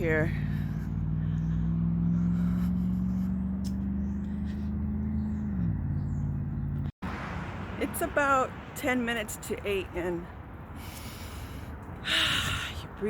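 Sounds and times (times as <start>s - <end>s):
vehicle engine humming: 0.0s - 12.3s.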